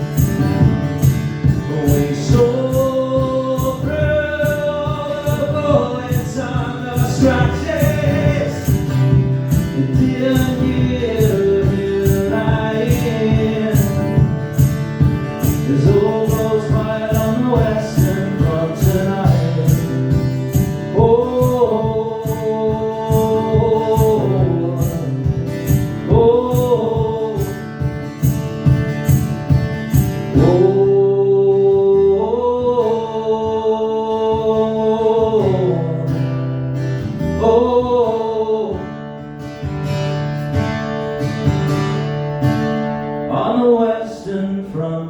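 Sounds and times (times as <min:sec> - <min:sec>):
acoustic guitar strumming: 0:00.0 - 0:45.0
man singing wordless notes: 0:01.0 - 0:27.9, 0:30.3 - 0:36.4, 0:37.2 - 0:39.3, 0:43.3 - 0:45.0.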